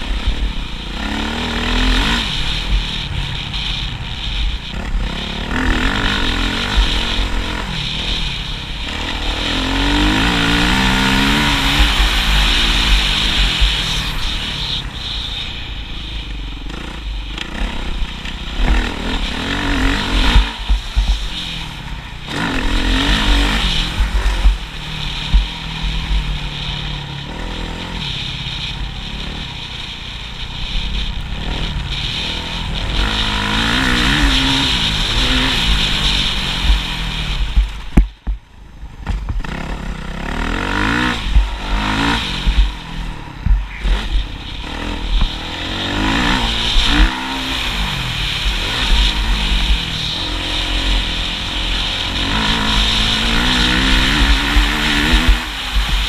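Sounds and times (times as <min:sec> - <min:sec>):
strong low rumble: 0:00.0 - 0:26.5, 0:31.2 - 0:56.0
motorcycle engine revving: 0:00.0 - 0:56.0.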